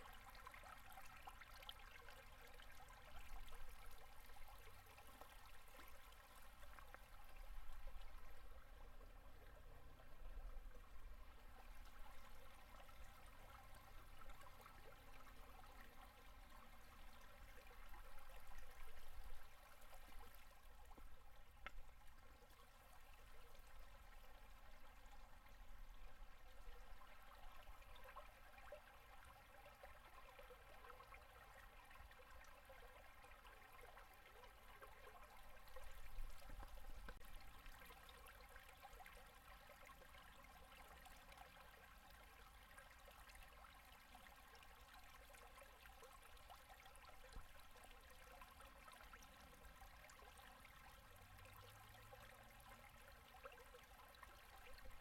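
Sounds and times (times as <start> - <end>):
river water gurgling under ice: 0.0 - 55.0.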